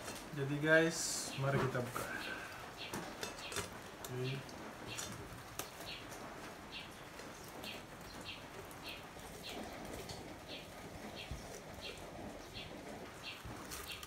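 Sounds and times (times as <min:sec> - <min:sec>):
small bird chirping: 0:01.2 - 0:14.0.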